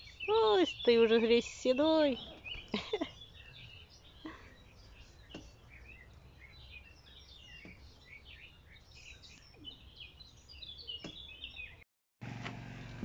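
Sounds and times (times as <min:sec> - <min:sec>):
songbirds chirping: 0:00.0 - 0:11.9.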